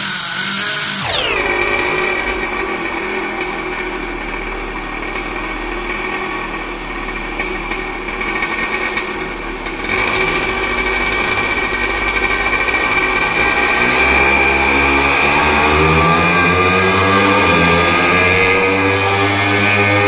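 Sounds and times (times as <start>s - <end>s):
small engine buzzing: 0.0s - 20.0s.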